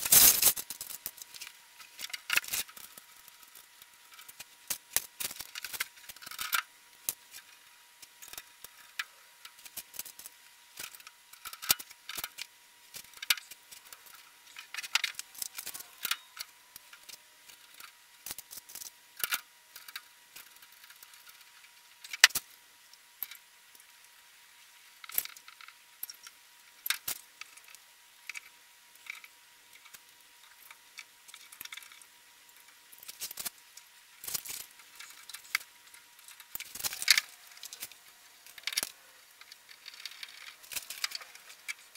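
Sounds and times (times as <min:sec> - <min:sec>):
metallic clicks and clatter: 0:00.0 - 0:22.6, 0:25.0 - 0:33.6, 0:34.2 - 0:41.9
faint thin whine: 0:00.0 - 0:41.9.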